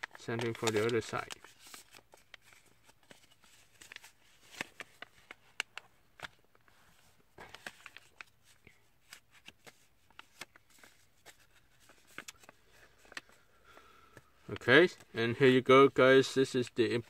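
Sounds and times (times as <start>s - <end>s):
paper being folded and creased: 0.0s - 15.1s.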